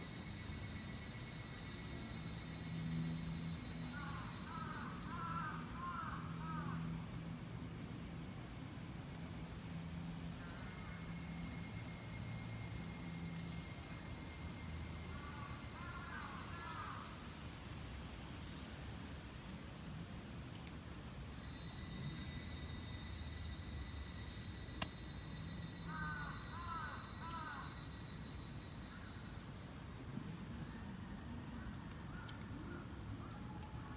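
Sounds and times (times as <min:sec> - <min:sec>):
cicada repeated calls: 0:00.0 - 0:07.2, 0:10.3 - 0:17.4, 0:19.1 - 0:33.9
cicadas chorus: 0:00.0 - 0:33.9.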